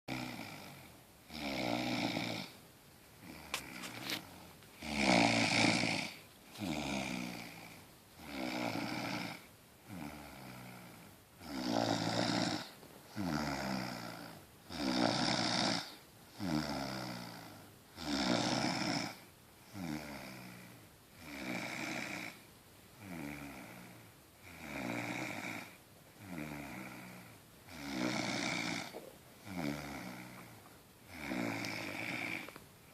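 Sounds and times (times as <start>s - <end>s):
rattling snoring: 0.1s - 2.5s, 3.2s - 22.4s, 23.0s - 32.6s.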